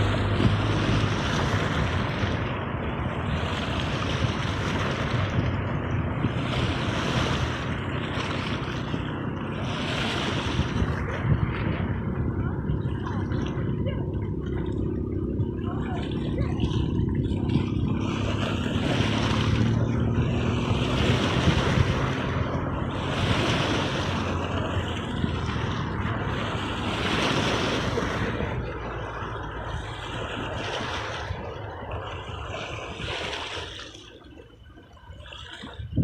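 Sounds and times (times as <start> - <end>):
wind on microphone: 0.0 - 34.2, 34.8 - 36.0
sea waves washing ashore: 0.0 - 36.0.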